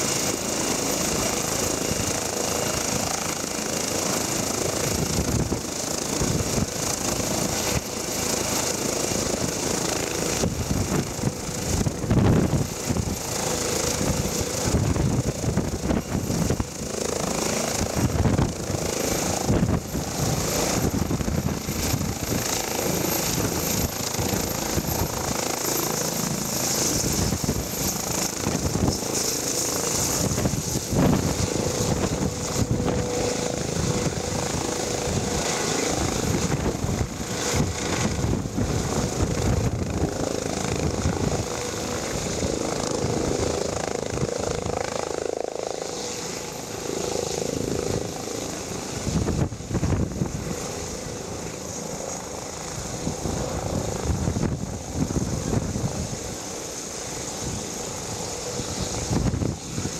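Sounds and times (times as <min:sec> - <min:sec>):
helicopter rotor and turbine whine: 0:00.0 - 0:59.9.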